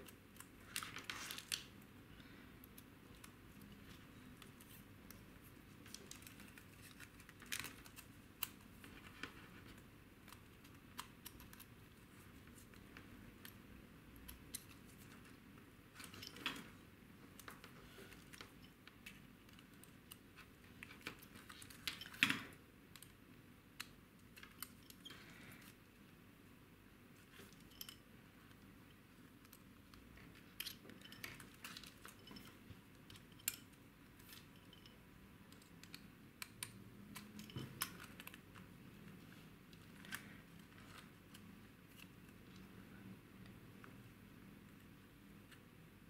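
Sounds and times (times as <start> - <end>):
small parts clicking and tapping: 0.0 - 25.8, 27.2 - 42.8.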